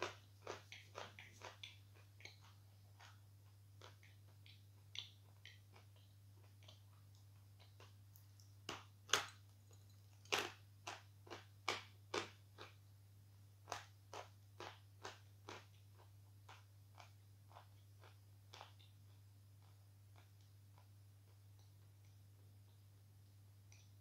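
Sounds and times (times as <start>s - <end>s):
chalk being chewed with crunches: 0.0s - 9.4s, 10.1s - 12.8s, 13.6s - 22.2s.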